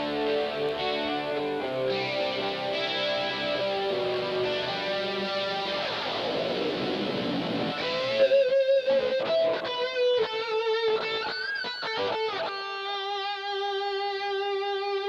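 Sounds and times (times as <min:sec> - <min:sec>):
electric guitar lead with bends: 0:00.0 - 0:15.0
electric guitar strummed chord: 0:00.0 - 0:15.0.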